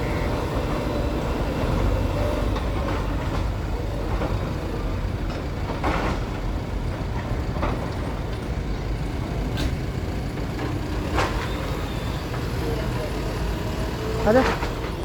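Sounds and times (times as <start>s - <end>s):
heavy vehicle engine rumbling: 0.0s - 15.0s.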